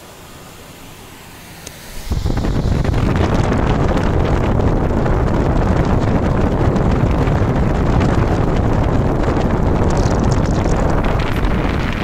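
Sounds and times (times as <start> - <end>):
air cooler fan blowing: 0.0 - 12.0.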